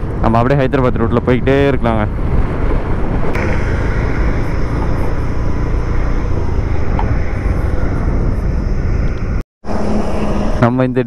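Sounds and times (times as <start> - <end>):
moped engine at speed: 0.0 - 9.4
wind and road noise: 0.0 - 11.0.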